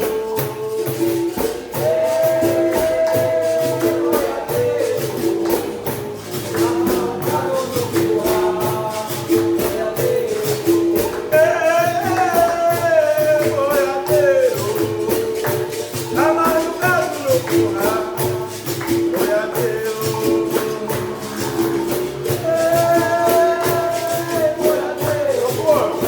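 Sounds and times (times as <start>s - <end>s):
berimbau and pandeiro rhythm: 0.0s - 26.0s.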